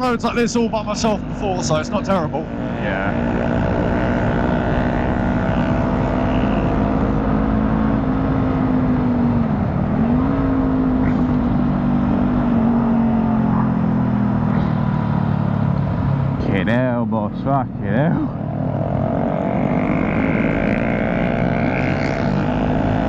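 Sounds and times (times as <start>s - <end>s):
motorcycle engine cruising: 0.0s - 23.0s
wind and road noise: 0.0s - 23.0s.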